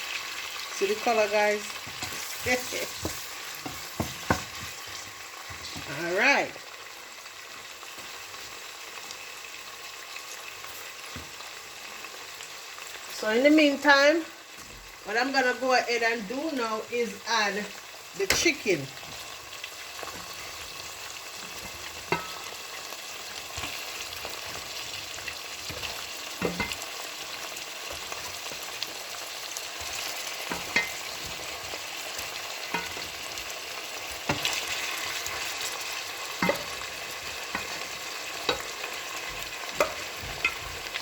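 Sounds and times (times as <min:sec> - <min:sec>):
oil sizzling in a pot: 0:00.0 - 0:41.0.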